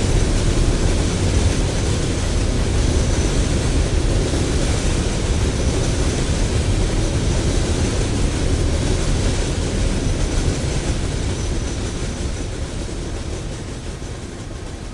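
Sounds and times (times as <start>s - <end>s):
freight train rumbling past: 0.0s - 14.9s
rail noise: 0.0s - 14.9s.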